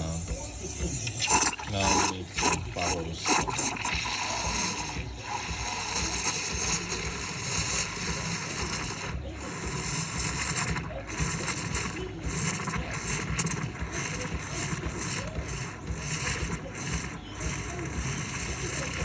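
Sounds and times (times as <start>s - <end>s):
milk frother whirring: 0.0s - 19.0s.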